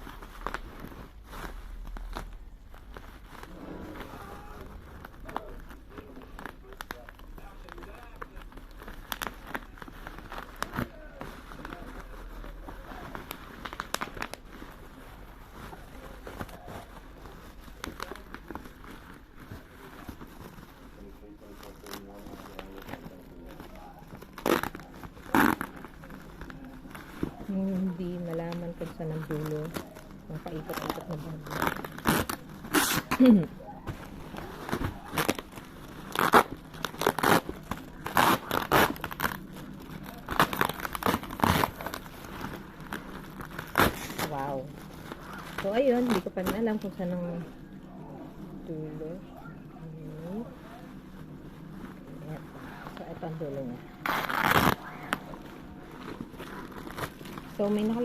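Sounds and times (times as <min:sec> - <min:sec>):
plastic packaging crinkling: 0:00.0 - 0:58.0
wrapping rustling and ripping: 0:00.0 - 0:58.0.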